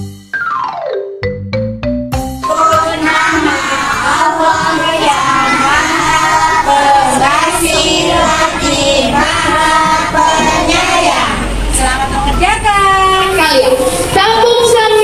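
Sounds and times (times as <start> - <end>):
children singing with music: 2.4 - 15.0.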